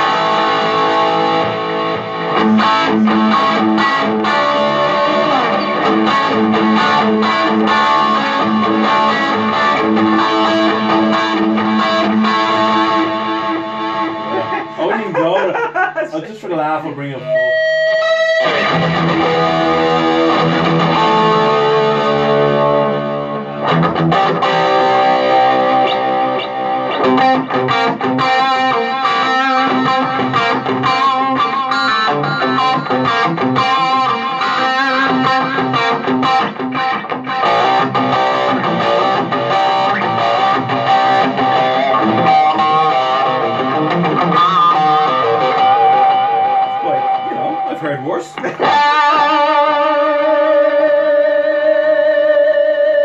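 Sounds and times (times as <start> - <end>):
electric guitar chord ringing: 0.0 - 15.4, 16.8 - 53.0
electric guitar licks and riffs: 0.0 - 53.0.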